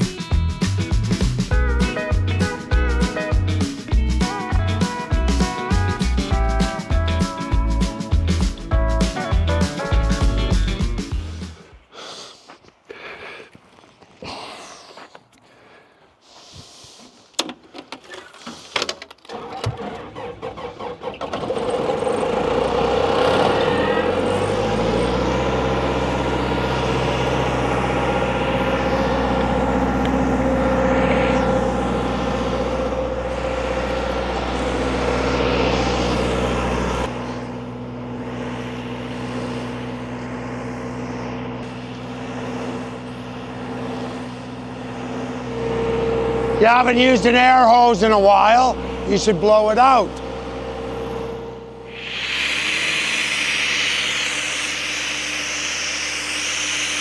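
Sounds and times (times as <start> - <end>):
diesel engine running: 0.0 - 12.0, 18.4 - 57.0.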